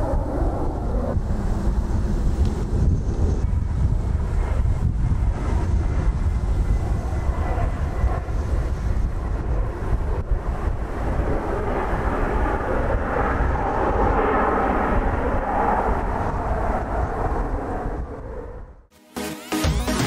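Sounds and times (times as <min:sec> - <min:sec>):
jet aircraft engine: 0:00.0 - 0:18.9
wind buffeting microphone: 0:00.0 - 0:18.9.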